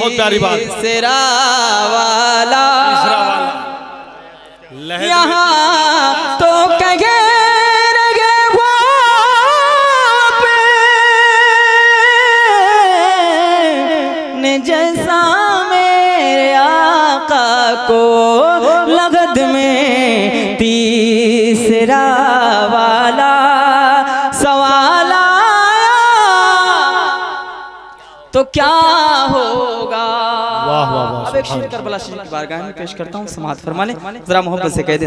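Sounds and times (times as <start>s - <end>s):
man singing into a microphone: 0.0s - 32.3s.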